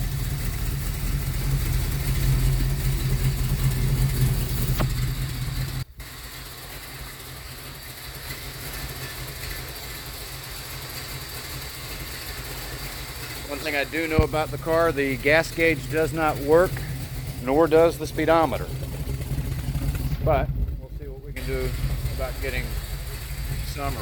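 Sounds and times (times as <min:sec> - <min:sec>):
car engine idling: 0:00.0 - 0:24.0
steady engine hum: 0:00.0 - 0:24.0.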